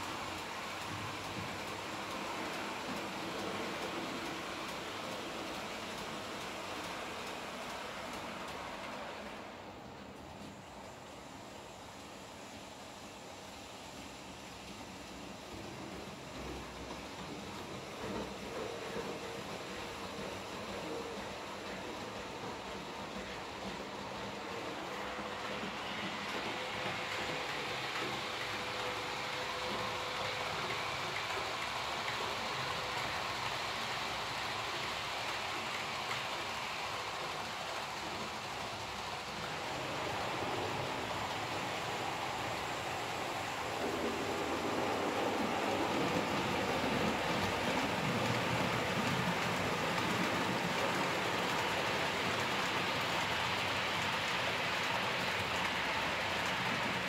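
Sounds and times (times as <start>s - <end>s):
model train wheels on rails: 0.0s - 57.0s.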